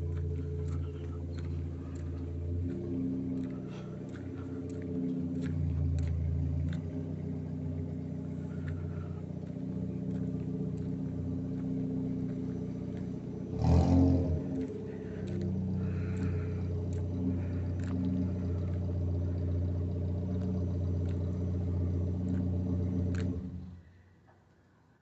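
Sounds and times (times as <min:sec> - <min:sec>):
car exhaust idling: 0:00.0 - 0:23.9.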